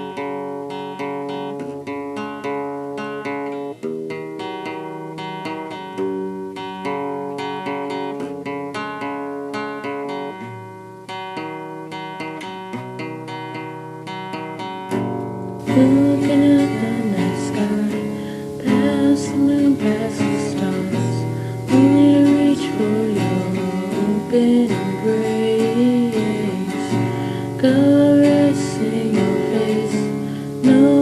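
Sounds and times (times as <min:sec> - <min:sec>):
acoustic guitar picking: 0:00.0 - 0:31.0.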